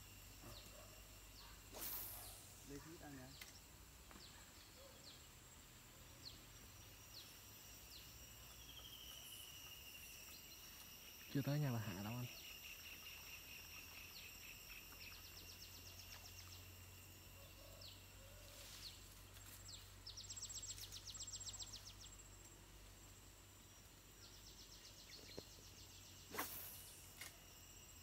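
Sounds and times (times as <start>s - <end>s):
insect high buzz: 0.0s - 28.0s.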